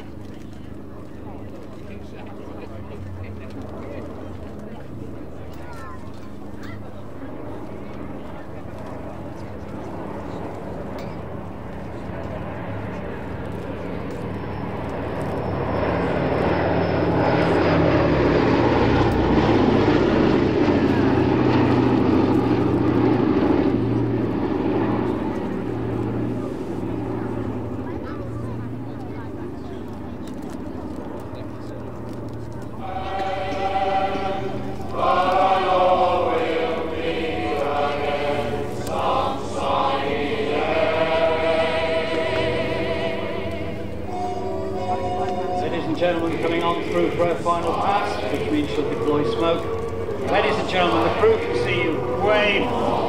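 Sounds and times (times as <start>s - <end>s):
propeller plane engines droning overhead: 0.0s - 53.0s.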